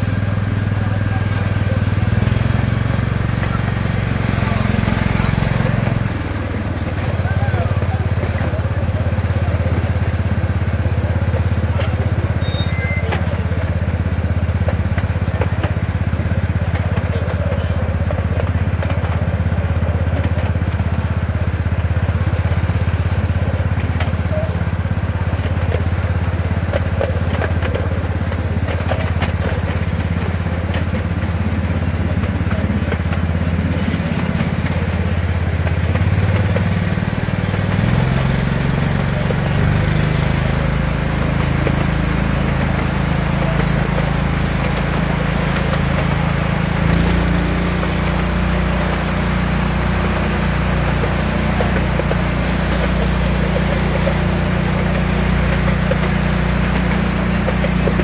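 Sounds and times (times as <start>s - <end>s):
small locomotive engine running: 0.0s - 58.0s.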